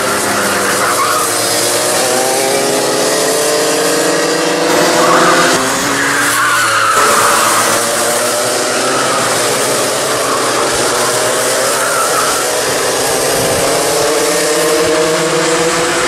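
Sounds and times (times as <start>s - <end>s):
kart engines at full throttle: 0.0s - 16.0s.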